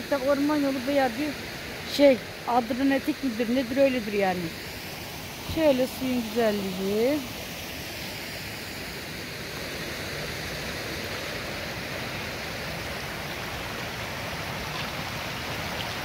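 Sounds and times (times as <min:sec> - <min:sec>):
stream running over pebbles: 0:00.0 - 0:16.0.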